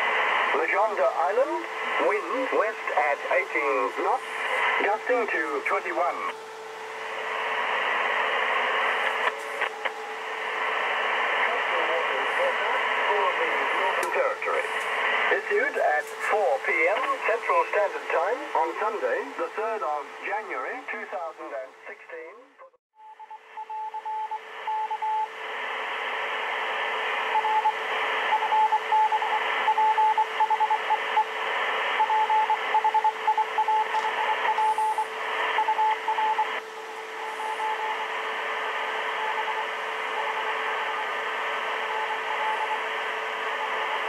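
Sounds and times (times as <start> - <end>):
radio band hiss: 0.0 - 22.5, 25.3 - 44.0.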